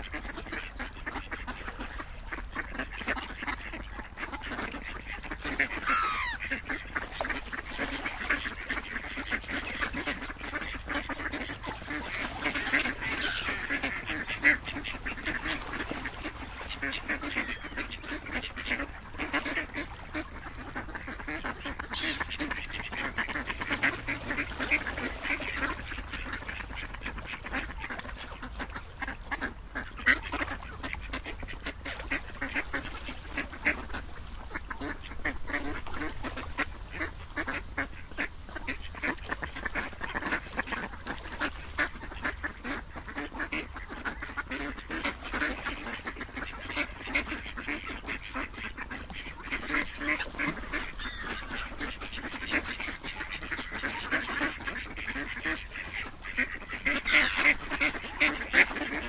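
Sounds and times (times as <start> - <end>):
ducks quacking: 0.0 - 59.0.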